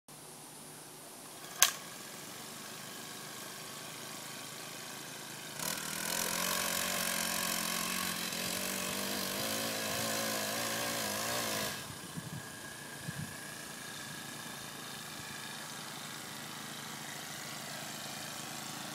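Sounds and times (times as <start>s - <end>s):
garden tiller engine running: 1.2s - 18.9s.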